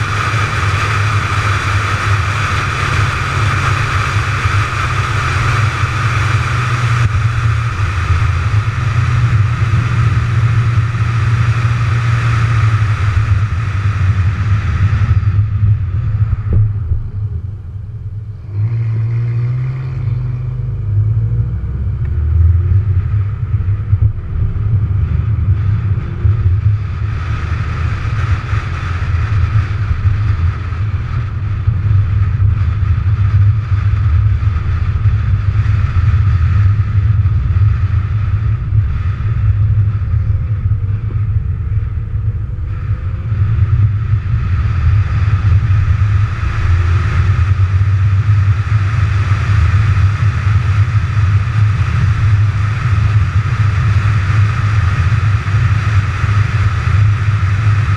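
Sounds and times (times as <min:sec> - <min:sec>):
car engine: 0:00.0 - 0:57.9
tyre and wind noise: 0:00.0 - 0:57.9.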